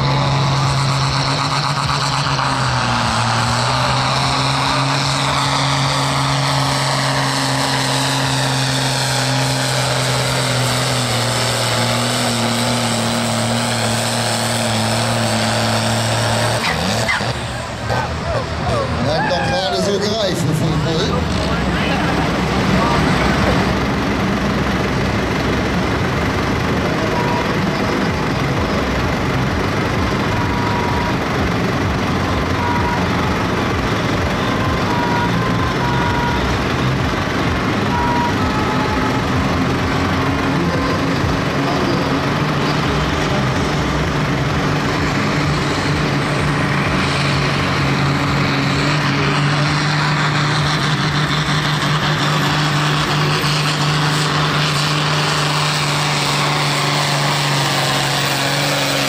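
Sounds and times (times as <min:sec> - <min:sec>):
tractor diesel engine running hard: 0:00.0 - 0:59.0.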